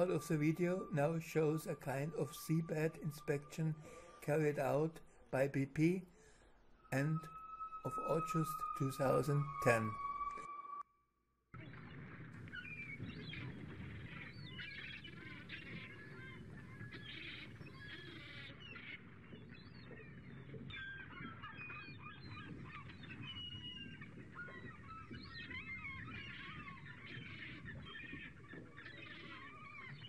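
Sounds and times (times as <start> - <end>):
chorus of bird calls: 0.0 - 10.6, 11.6 - 30.0.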